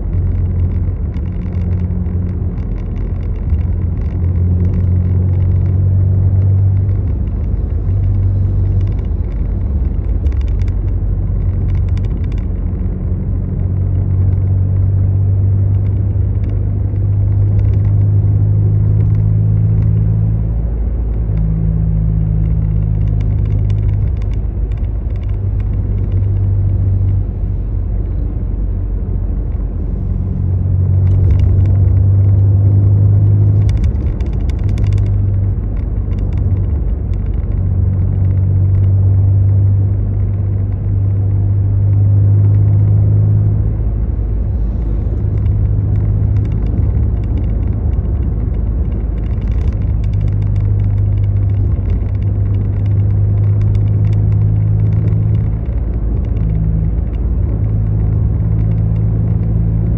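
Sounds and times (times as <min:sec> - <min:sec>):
motor vehicle rumbling: 0:00.0 - 0:59.9.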